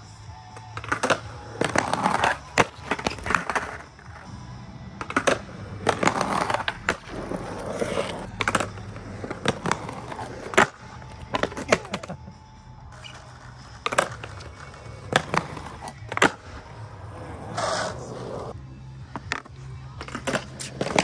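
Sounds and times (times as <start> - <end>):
skateboard wheels rolling on concrete: 0.0 - 21.0
skateboard clacks: 0.6 - 4.3, 5.0 - 12.2, 13.0 - 21.0.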